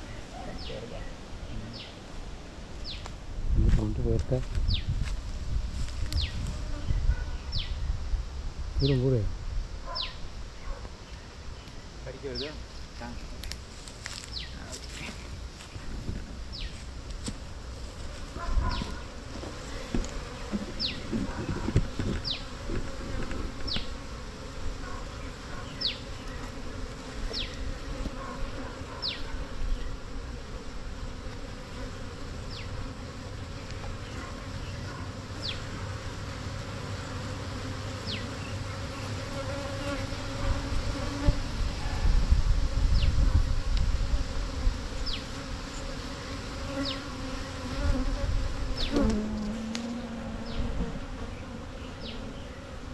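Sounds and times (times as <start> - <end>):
honeybees buzzing: 0.0 - 52.9.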